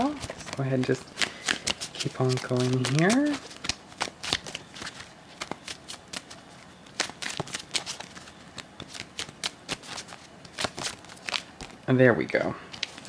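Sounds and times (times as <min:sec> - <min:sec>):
cards being shuffled by hand: 0:00.0 - 0:11.9, 0:12.7 - 0:13.0.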